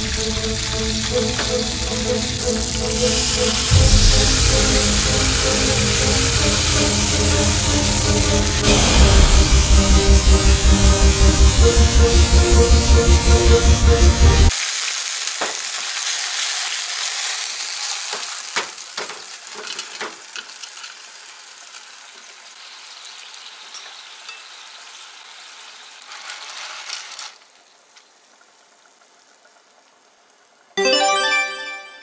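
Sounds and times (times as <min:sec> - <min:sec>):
clams sizzling in a frying pan: 0:00.0 - 0:09.6, 0:14.5 - 0:30.7.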